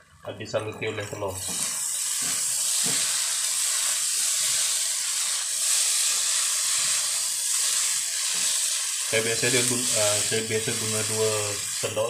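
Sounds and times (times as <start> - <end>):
noodles sizzling in a wok: 0.9 - 12.0.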